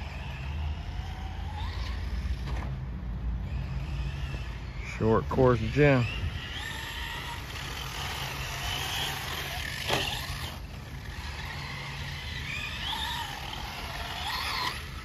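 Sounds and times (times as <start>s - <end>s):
electric motor high whine: 0.0s - 2.7s, 3.4s - 15.0s.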